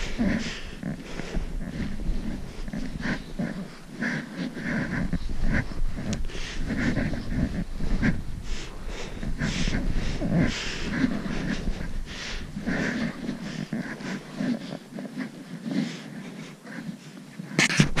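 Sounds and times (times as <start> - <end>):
hard breathing: 0.0 - 18.0.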